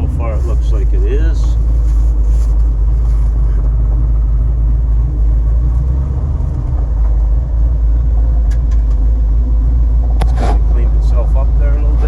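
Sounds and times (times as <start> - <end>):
car engine rumbling roughly: 0.0 - 12.0.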